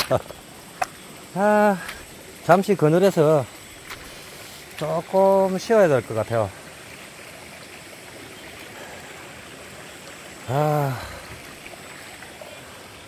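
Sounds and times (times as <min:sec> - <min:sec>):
stream running over pebbles: 0:00.0 - 0:13.0.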